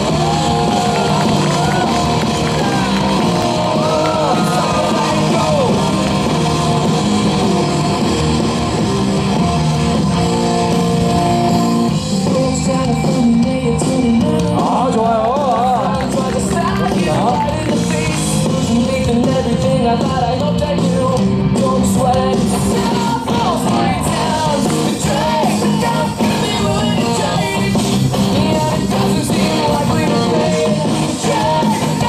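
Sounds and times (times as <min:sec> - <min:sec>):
rock music with singing and guitar: 0:00.0 - 0:32.0.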